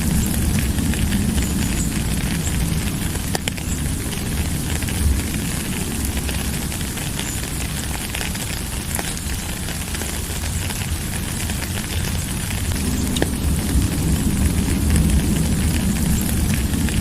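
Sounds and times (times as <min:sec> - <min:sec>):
low rumble: 0:00.0 - 0:09.4, 0:10.3 - 0:17.0
raindrops ticking close by: 0:00.0 - 0:17.0
steady rain hiss: 0:00.0 - 0:17.0.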